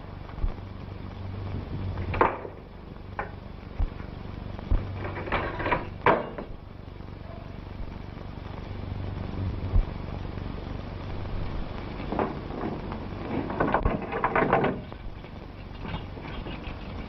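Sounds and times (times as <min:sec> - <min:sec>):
film soundtrack hum and hiss: 0:00.0 - 0:17.0.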